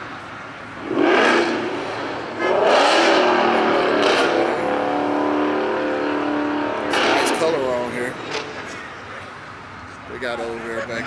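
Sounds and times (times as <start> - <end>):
car engine revving: 0.6 - 9.8.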